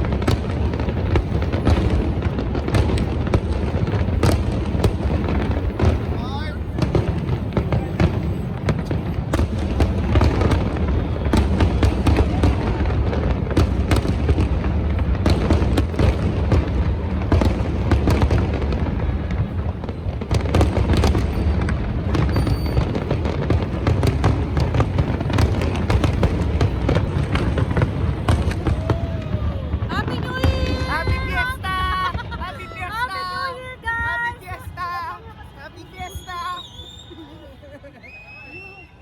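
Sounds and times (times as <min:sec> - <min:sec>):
firework bangs and crackles: 0:00.0 - 0:39.0.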